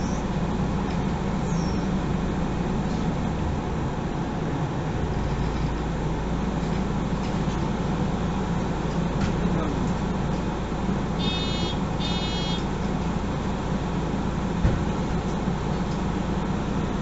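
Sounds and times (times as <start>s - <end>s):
bus diesel engine idling: 0.0s - 17.0s.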